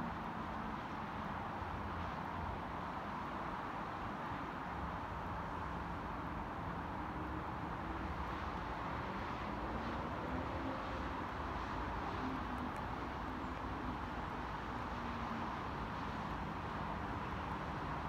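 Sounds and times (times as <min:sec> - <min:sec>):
distant road traffic hum: 0:00.0 - 0:18.0.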